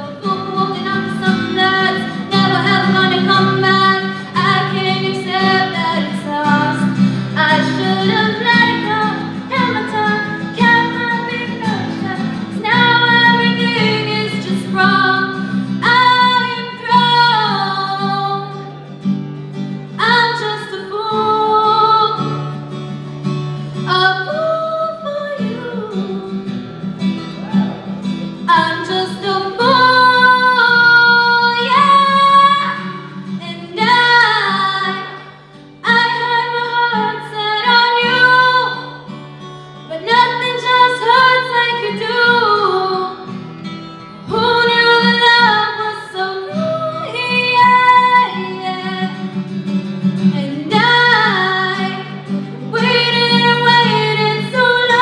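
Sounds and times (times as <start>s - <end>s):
woman singing: 0.0s - 18.9s, 19.9s - 22.5s, 23.8s - 26.6s, 28.4s - 39.2s, 39.8s - 43.4s, 44.2s - 49.5s, 50.2s - 55.0s
strummed acoustic guitar: 0.0s - 55.0s.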